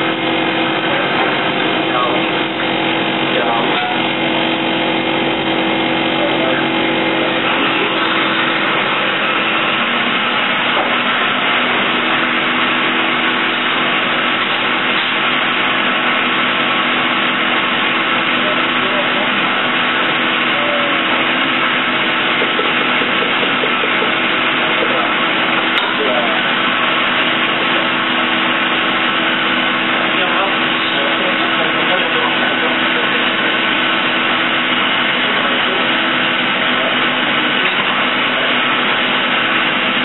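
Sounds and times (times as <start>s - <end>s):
murmur of voices: 0.0s - 40.0s
ventilation rush and hum: 0.0s - 40.0s.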